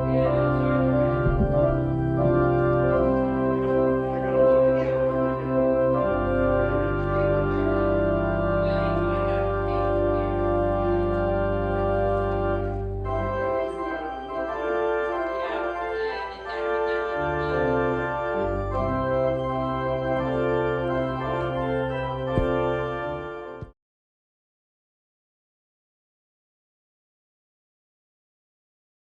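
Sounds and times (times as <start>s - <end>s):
organ playing full chords: 0.0s - 23.7s.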